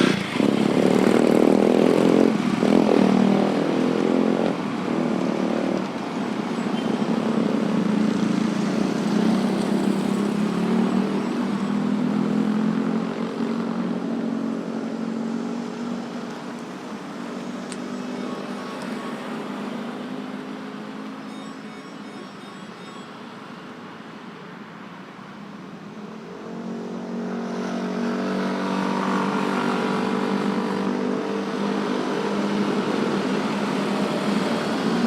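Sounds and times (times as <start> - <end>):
motorbikes and cars passing: 0.0 - 35.0.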